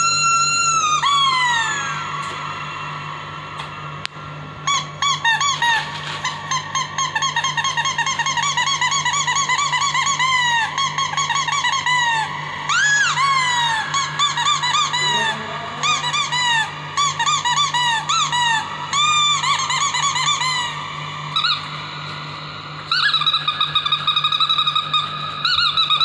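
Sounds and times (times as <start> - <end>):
small dog whining: 0.0 - 2.5, 4.7 - 22.2, 22.9 - 26.0.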